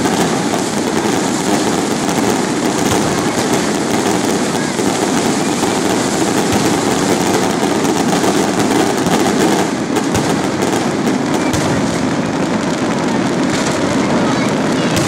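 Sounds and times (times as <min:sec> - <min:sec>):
fireworks bangs: 0:00.0 - 0:15.0
fireworks hissing and crackling: 0:00.0 - 0:15.0.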